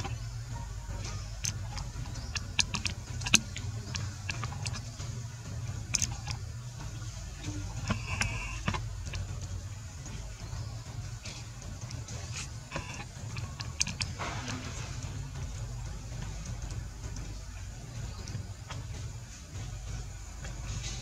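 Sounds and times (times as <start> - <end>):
low rumble: 0.0 - 21.0
sharp clicks and crackles: 0.9 - 10.5, 11.2 - 21.0.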